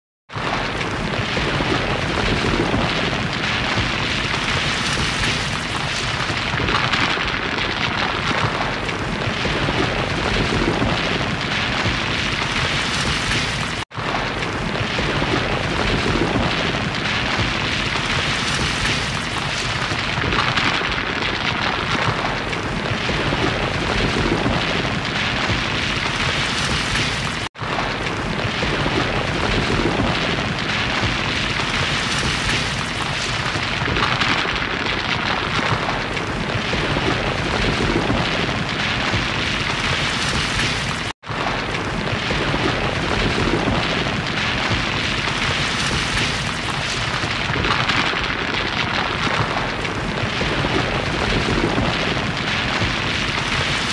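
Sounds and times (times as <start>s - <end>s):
rock slide rumbling: 0.4s - 53.9s.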